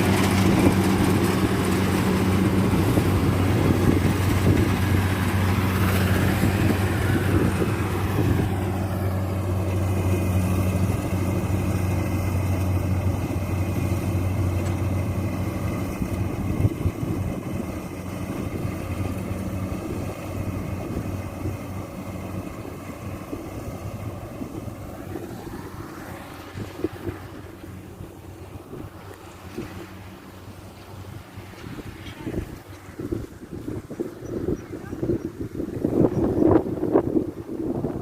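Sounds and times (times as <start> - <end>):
harvester engine humming: 0.0 - 38.0
high engine whine: 0.0 - 38.0.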